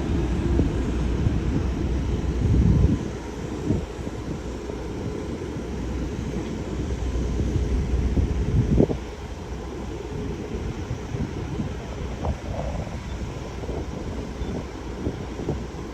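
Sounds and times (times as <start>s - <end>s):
jet engines rumbling: 0.0s - 15.9s
wind buffeting microphone: 0.0s - 15.9s.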